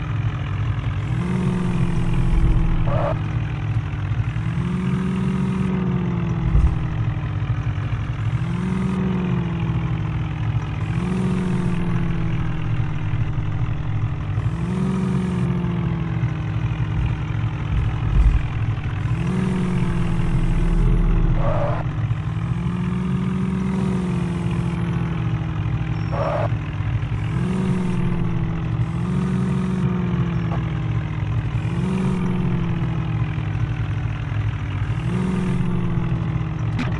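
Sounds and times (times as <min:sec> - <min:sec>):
diesel engine revving: 0:00.0 - 0:36.9.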